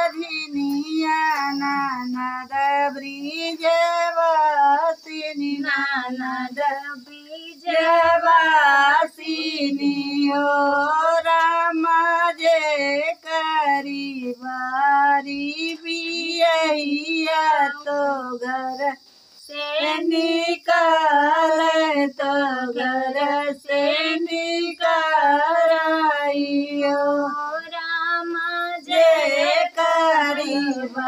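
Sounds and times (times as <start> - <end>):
faint hiss: 0.0 - 31.0
women singing folk song: 0.0 - 31.0.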